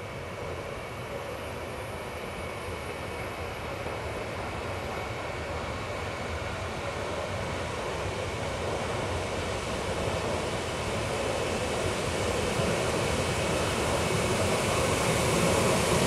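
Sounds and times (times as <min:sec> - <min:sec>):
steam locomotive rumbling and hissing: 0:00.0 - 0:16.0.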